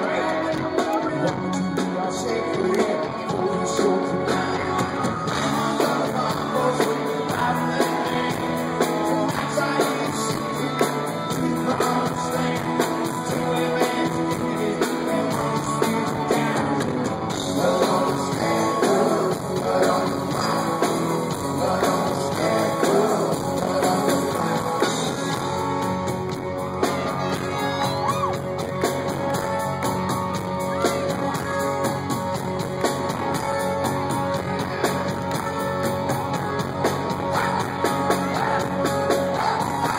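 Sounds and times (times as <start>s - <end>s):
drums: 0.0s - 39.9s
electric guitars: 0.0s - 39.9s
live rock band playing: 0.0s - 39.9s
male lead vocal: 0.0s - 39.9s.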